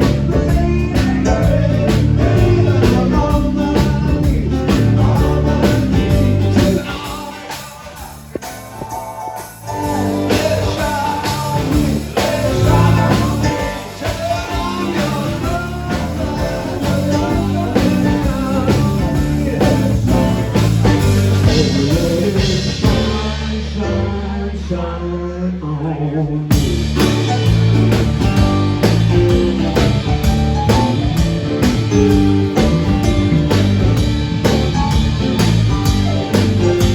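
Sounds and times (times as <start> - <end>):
rock song with singing and guitar: 0.0 - 36.9.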